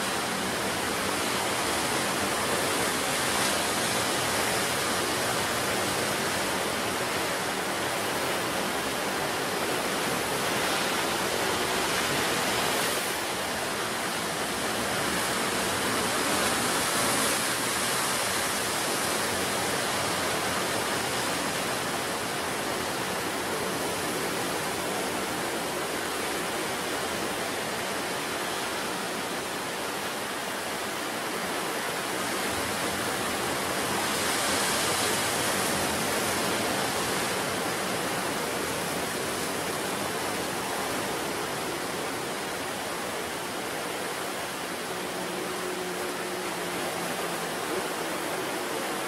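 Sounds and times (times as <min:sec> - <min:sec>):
sea surf breaking on shore: 0:00.0 - 0:49.0.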